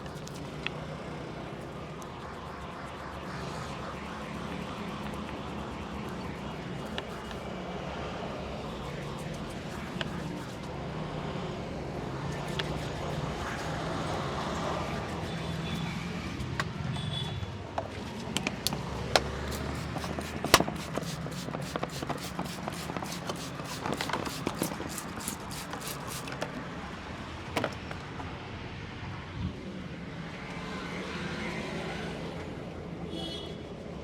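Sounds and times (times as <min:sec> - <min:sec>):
street traffic hum: 0:00.0 - 0:34.0.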